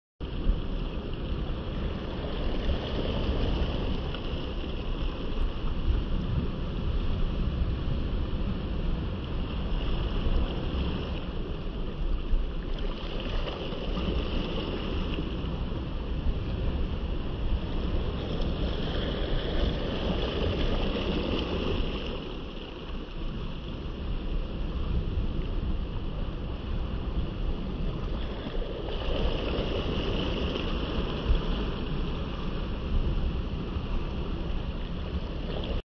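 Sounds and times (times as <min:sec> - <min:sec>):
small waves washing onto sand: 0:00.2 - 0:35.8
wind buffeting microphone: 0:00.2 - 0:35.8.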